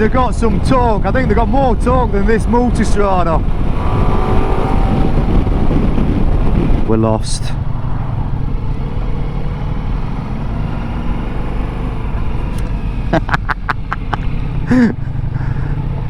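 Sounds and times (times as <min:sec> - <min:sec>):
motorcycle engine rumble: 0:00.0 - 0:16.0
wind noise: 0:00.0 - 0:16.0.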